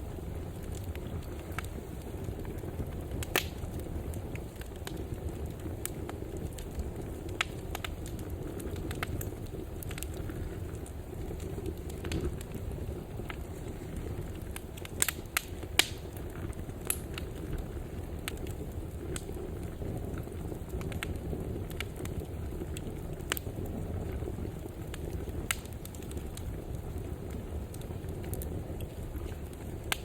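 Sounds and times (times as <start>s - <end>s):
fire flames rumbling: 0.0s - 30.0s
wood fire crackling and popping: 0.0s - 30.0s.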